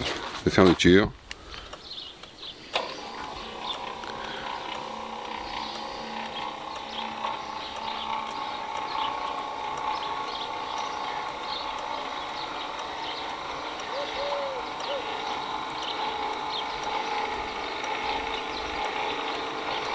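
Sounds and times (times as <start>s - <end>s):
low hum: 1.1s - 19.9s
gate motor whine: 1.6s - 19.9s.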